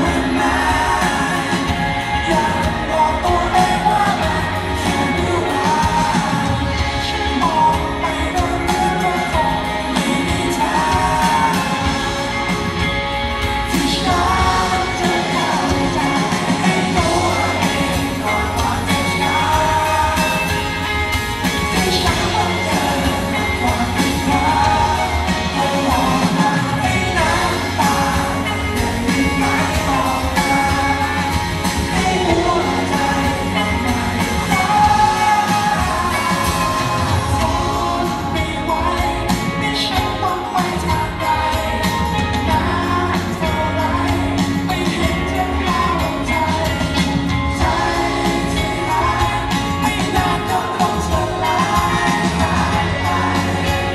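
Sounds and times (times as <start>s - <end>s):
live pop-rock band: 0.0s - 53.9s.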